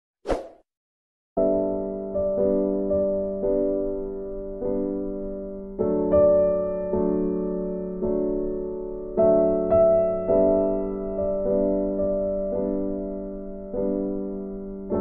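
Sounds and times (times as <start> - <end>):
slow piano chords: 1.4 - 15.0.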